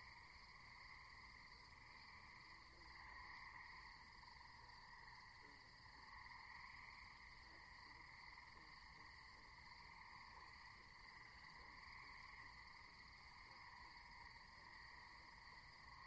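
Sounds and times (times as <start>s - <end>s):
soft low frog calls: 0.0s - 16.0s.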